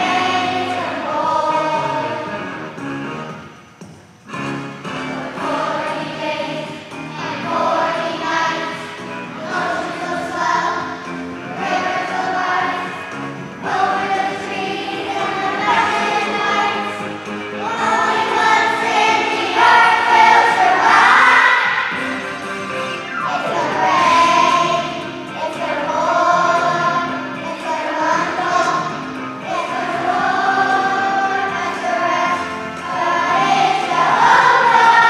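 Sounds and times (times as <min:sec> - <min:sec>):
children's choir singing: 0:00.0 - 0:03.4, 0:04.8 - 0:35.0
instrumental accompaniment: 0:00.0 - 0:35.0.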